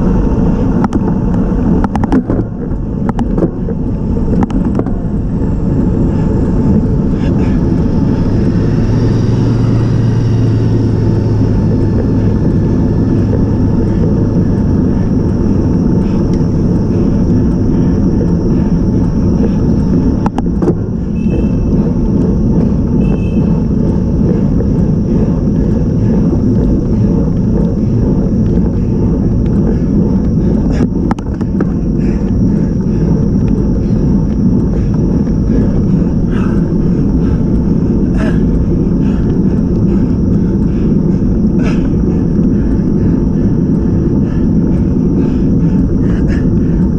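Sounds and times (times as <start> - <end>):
low steady hum: 0.0 - 46.9
road rumble: 0.0 - 46.9
wind on microphone: 0.0 - 46.9.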